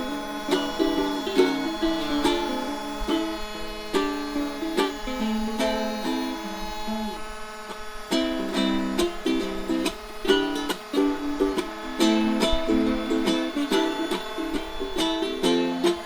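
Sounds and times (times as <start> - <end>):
ukulele plucked tune: 0.0 - 7.2, 8.1 - 16.0.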